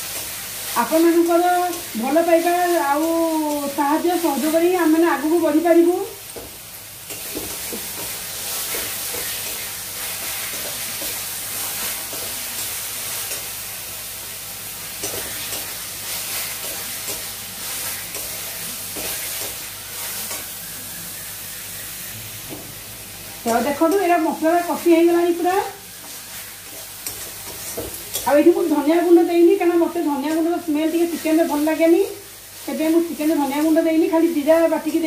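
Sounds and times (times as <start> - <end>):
paste sizzling in oil: 0.0 - 35.0.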